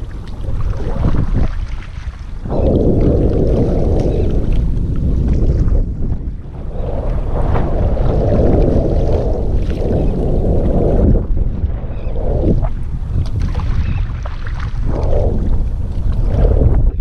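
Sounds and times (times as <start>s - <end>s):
water sloshing against kayak hull: 0.0s - 17.0s
wind buffeting microphone: 0.0s - 17.0s.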